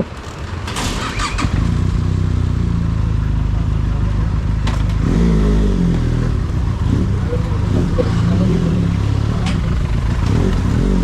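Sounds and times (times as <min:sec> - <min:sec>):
motorcycle engine running: 0:01.6 - 0:11.0.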